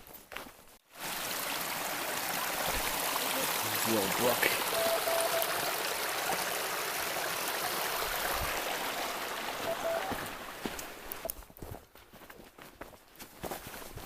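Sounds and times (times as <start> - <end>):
brook running: 0.4 - 12.3.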